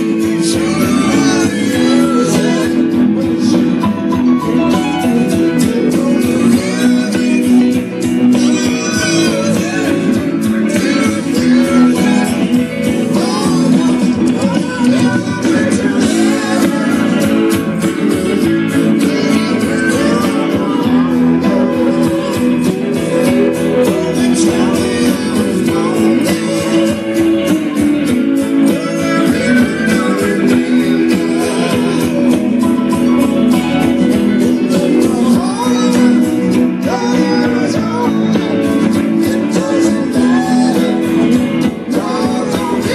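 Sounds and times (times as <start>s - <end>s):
bass guitar: 0.0s - 42.9s
drum kit beat: 0.0s - 42.9s
electric guitars: 0.0s - 42.9s
male lead vocal: 0.0s - 42.9s.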